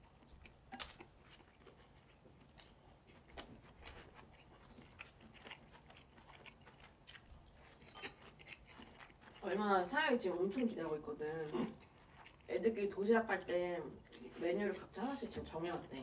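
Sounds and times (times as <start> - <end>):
people chewing: 0.0 - 16.0.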